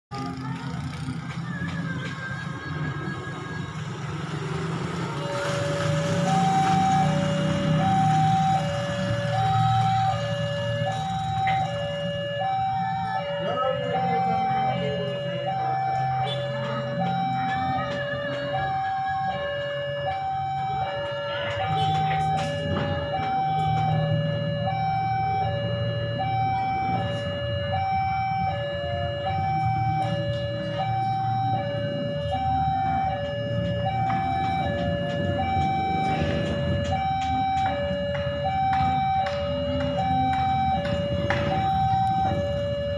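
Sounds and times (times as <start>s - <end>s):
two-tone crossing alarm: 0.1s - 42.9s.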